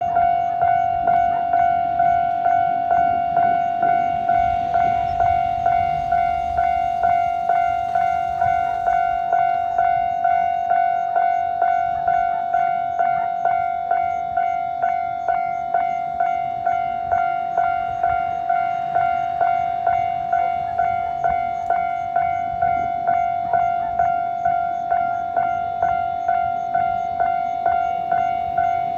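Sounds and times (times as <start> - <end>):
level crossing warning bell: 0.0 - 28.9.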